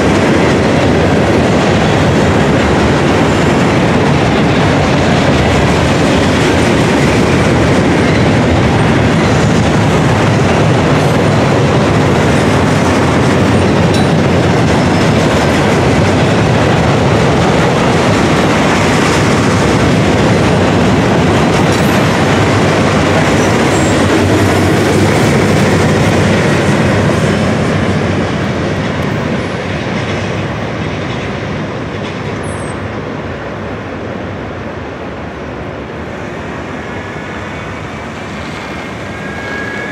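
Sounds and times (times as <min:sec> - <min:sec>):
steel train wheels on rail: 0:00.0 - 0:39.9.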